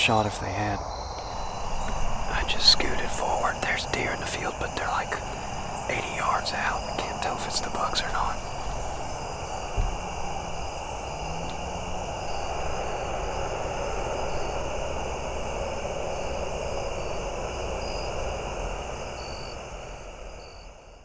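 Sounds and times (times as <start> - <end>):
distant engine drone: 0.0 - 20.3.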